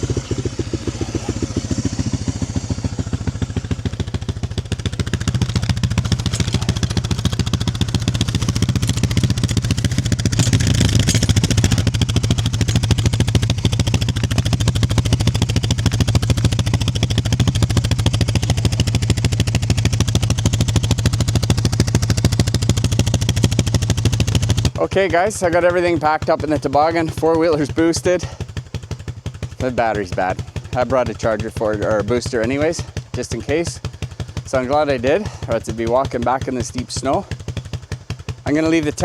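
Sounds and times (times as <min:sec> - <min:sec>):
atv engine idling: 0:00.0 - 0:39.0.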